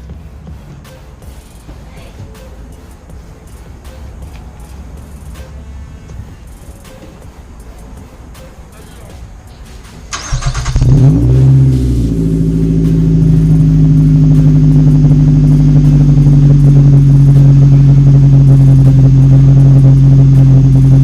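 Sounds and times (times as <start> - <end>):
car engine starting and idling: 2.7 - 21.0.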